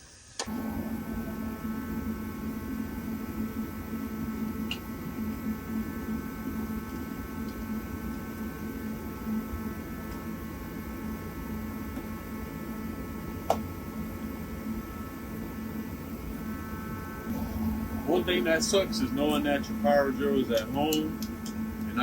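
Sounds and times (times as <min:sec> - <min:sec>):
heater humming with fan noise: 0:00.0 - 0:22.0.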